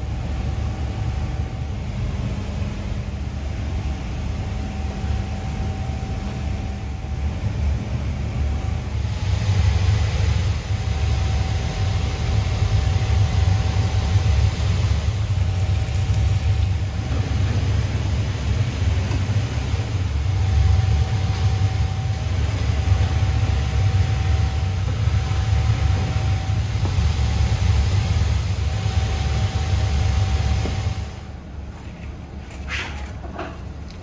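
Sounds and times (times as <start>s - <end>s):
faint high whine: 0.0s - 31.6s
low mechanical rumble with hiss: 0.0s - 34.0s.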